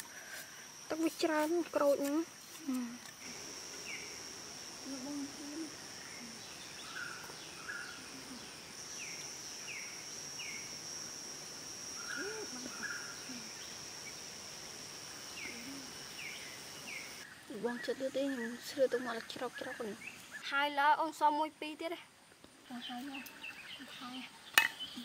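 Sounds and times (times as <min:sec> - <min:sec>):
high-pitched insect drone: 0:00.0 - 0:20.4.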